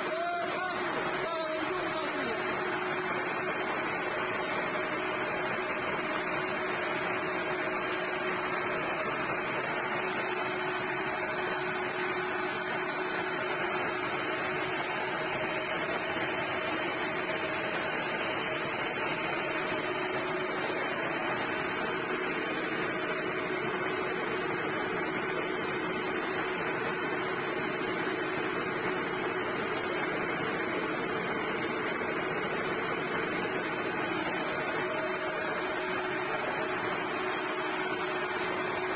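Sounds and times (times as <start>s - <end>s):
wire drawing machine droning: 0.0s - 38.9s.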